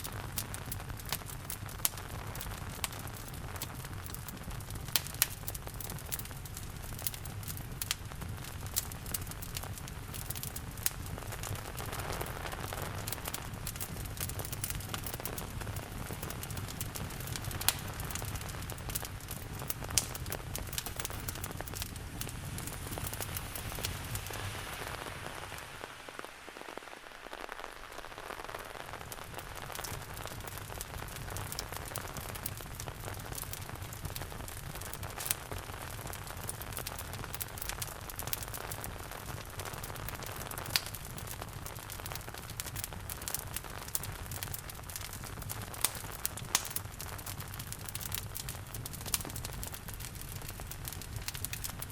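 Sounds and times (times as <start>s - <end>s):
steady rain: 0.0s - 51.9s
wood fire crackling: 0.0s - 51.9s.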